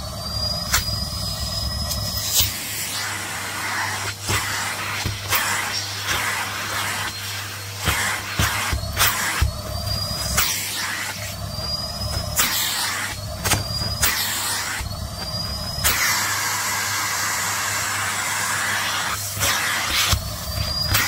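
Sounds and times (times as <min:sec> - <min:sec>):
vacuum cleaner motor hum: 0:00.0 - 0:21.0
vacuum nozzle whistle: 0:00.0 - 0:21.0
suction rushing hiss: 0:00.6 - 0:21.0.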